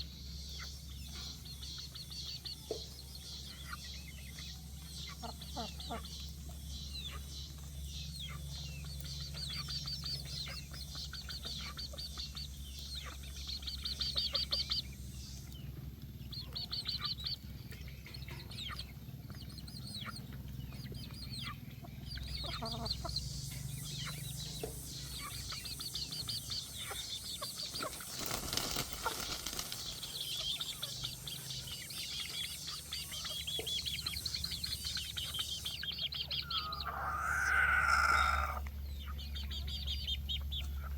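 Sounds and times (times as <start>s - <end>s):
baby chicks peeping: 0.0s - 40.9s
steady low hum: 0.0s - 40.9s.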